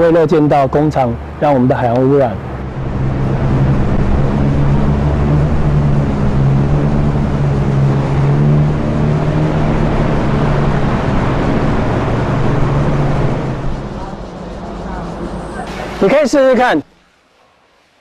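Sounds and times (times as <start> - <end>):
boat engine drone: 0.0 - 17.8
wind: 0.0 - 18.0.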